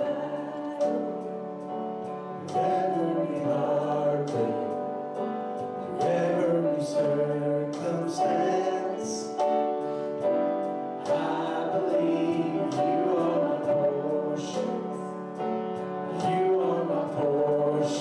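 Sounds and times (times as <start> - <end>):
congregation singing: 0.0 - 18.0
piano accompaniment: 0.0 - 18.0.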